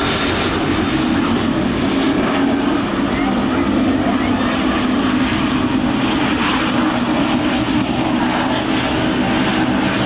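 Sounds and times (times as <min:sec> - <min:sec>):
loud steady jet engine noise: 0:00.0 - 0:10.0.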